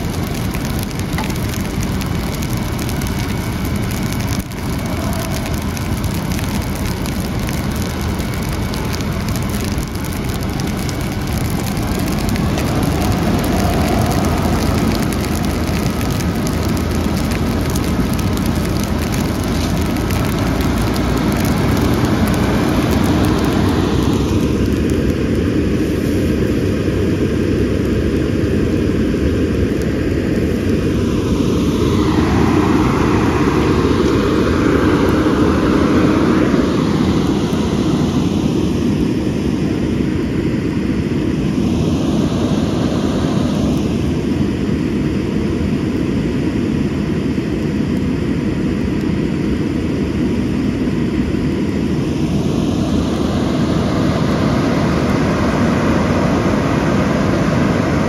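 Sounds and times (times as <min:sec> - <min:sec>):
fire engine pump rumble: 0:00.0 - 0:58.0.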